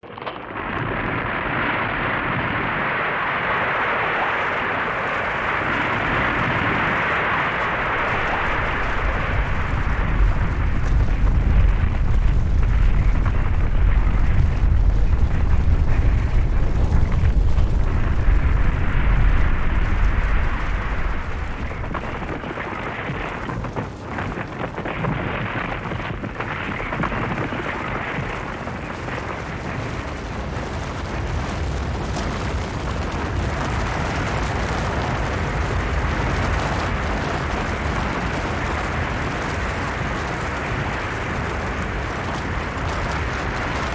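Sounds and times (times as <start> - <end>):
avalanche rumbling: 0.0 - 43.9.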